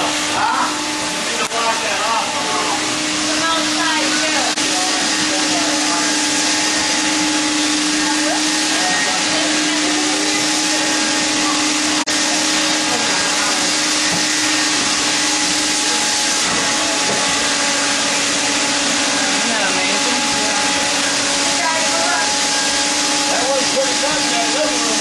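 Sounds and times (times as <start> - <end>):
shop vacuum whining: 0.0 - 25.0.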